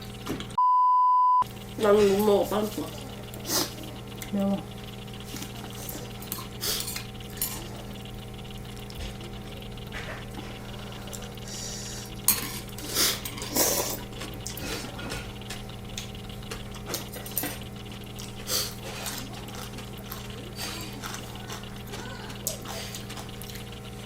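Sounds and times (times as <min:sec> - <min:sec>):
low electrical hum: 0:00.0 - 0:00.6, 0:01.4 - 0:24.0
utensils clicking against bowls: 0:01.5 - 0:24.0.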